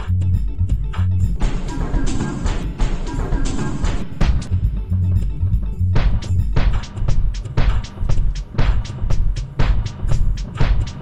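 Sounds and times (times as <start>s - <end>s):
music with heavy bass and drums: 0.0s - 11.0s.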